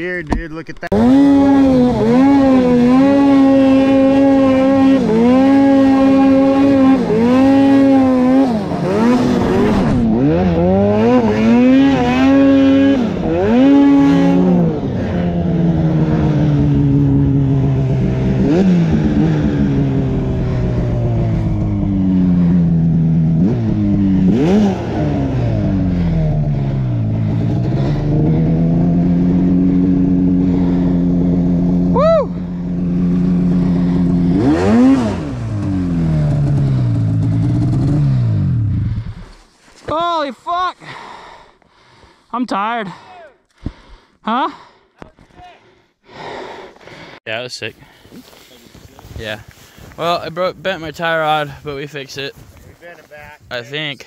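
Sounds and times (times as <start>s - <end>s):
snowmobile engine revving: 0.0s - 41.0s, 47.6s - 54.0s.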